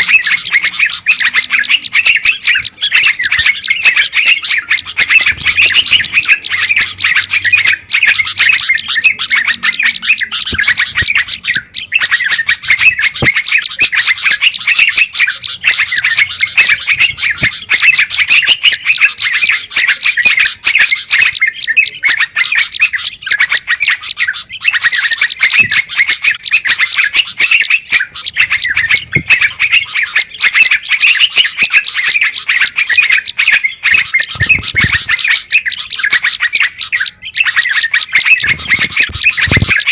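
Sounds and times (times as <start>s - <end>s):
many songbirds chattering: 0.0s - 39.9s.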